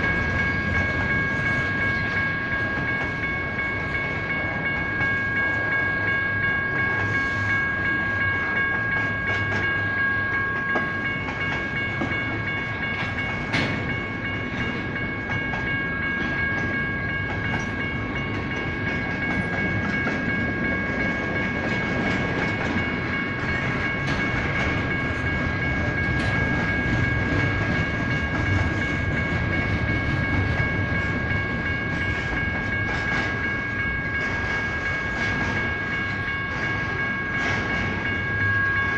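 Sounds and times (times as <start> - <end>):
crossing bell ringing: 0.0 - 38.9
train wheels rumbling over rails: 0.0 - 38.9.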